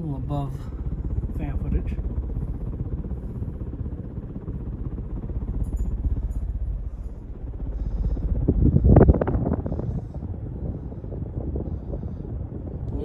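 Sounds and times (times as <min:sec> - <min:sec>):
ceiling fan running: 0:00.0 - 0:13.0
wind buffeting microphone: 0:00.0 - 0:13.0.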